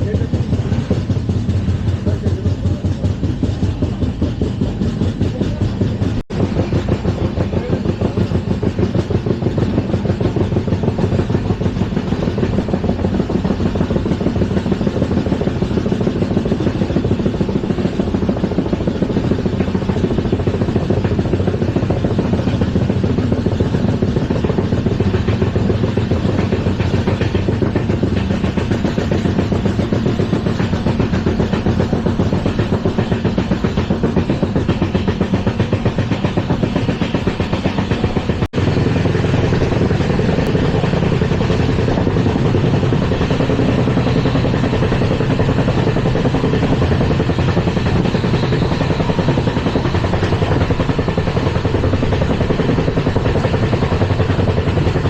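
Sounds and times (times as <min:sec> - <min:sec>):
train coach rumbling and rattling: 0:00.0 - 0:55.0.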